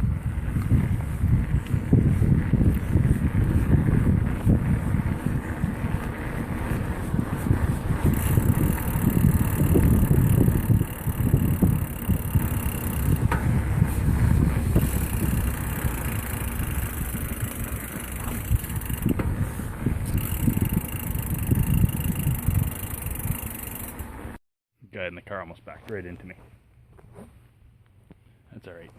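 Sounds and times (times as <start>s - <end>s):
wind buffeting microphone: 0.0s - 23.8s
bike tyre and road noise: 0.0s - 24.4s.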